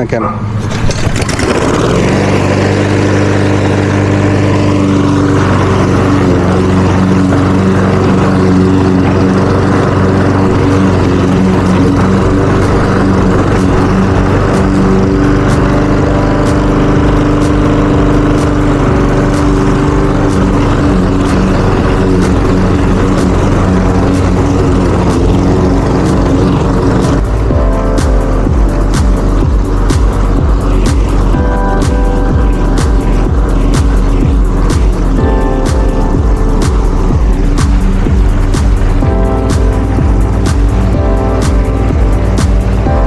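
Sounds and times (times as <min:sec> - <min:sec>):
lawn mower engine running: 0:00.4 - 0:43.0.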